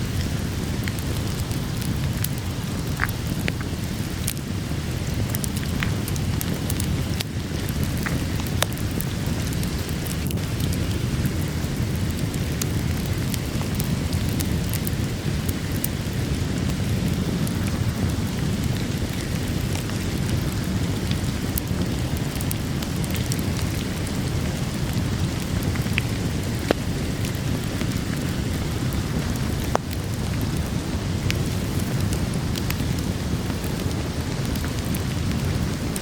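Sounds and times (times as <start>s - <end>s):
heavy rain: 0.0s - 36.0s
wood fire crackling: 0.0s - 36.0s.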